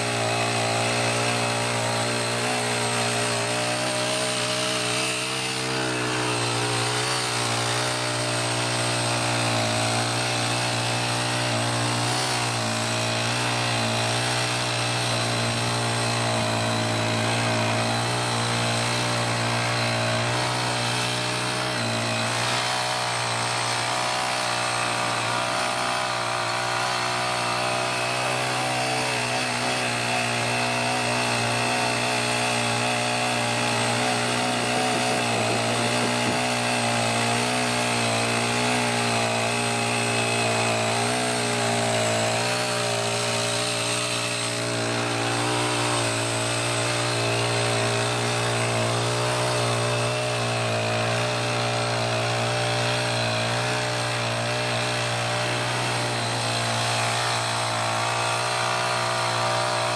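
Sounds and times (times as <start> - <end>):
small tiller engine running: 0.0 - 59.9.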